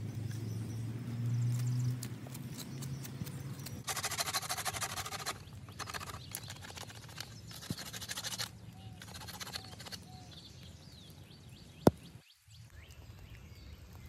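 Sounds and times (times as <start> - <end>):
twigs snapping and crackling: 1.2 - 14.0.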